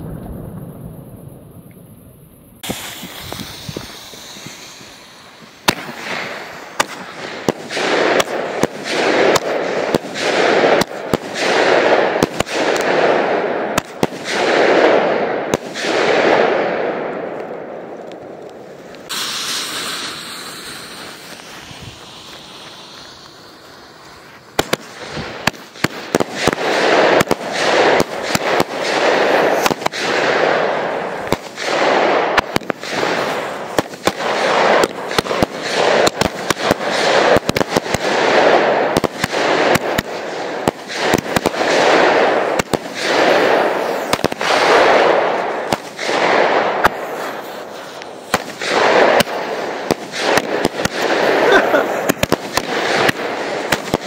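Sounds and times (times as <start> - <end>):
firework fuse hissing: 2.3 - 12.9, 18.0 - 54.0
firework shots cracking: 2.6 - 54.0.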